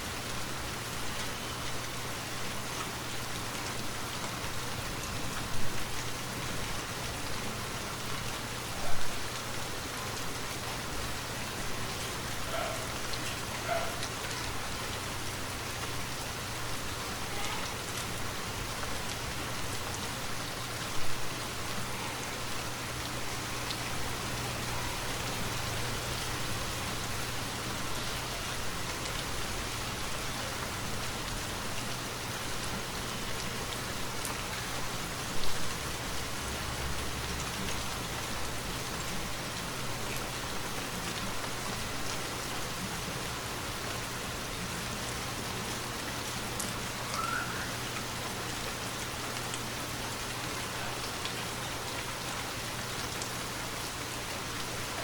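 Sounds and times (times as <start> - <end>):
louder rain hits: 0.0 - 55.0
rain on forest canopy: 0.0 - 55.0.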